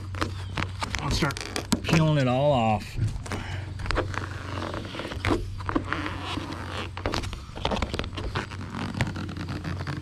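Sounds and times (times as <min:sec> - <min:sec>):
vinyl film peeling crackle: 0:00.0 - 0:02.0, 0:03.2 - 0:10.0.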